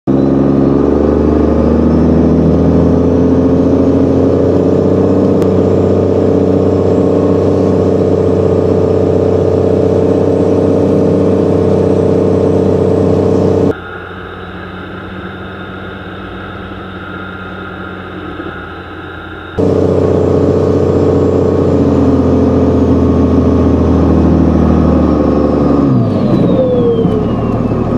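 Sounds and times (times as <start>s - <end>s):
diesel engine running under load: 0.1s - 27.9s.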